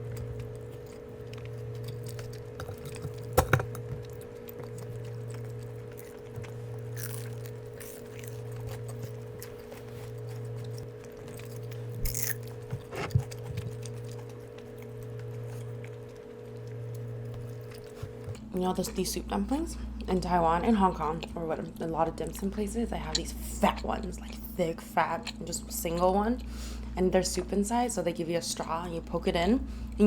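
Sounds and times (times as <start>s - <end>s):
soft chewing of food: 0.0s - 19.0s, 19.8s - 27.6s
steady low hum: 0.0s - 30.0s.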